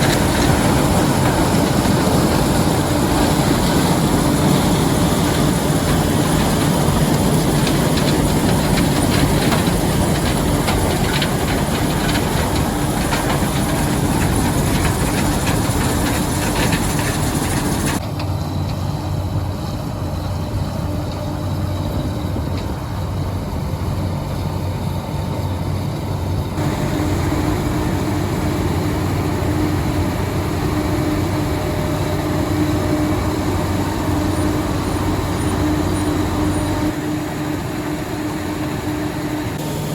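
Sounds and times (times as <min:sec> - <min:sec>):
farm machinery engine drone: 0:00.0 - 0:39.9.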